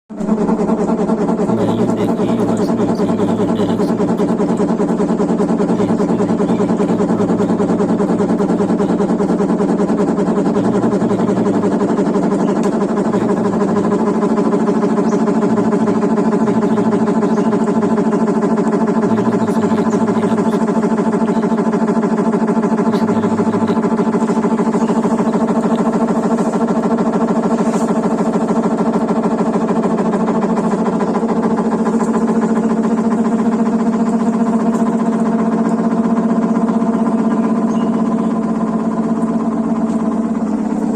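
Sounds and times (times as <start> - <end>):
washing machine humming: 0.1 - 40.9.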